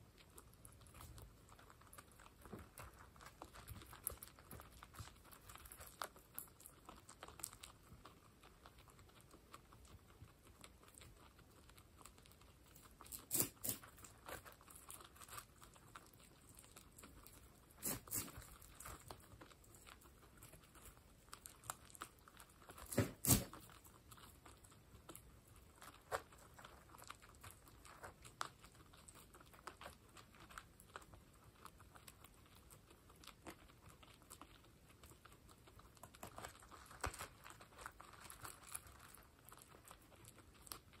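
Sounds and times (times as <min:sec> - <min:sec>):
guinea pigs chewing pellets: 0:00.0 - 0:41.0.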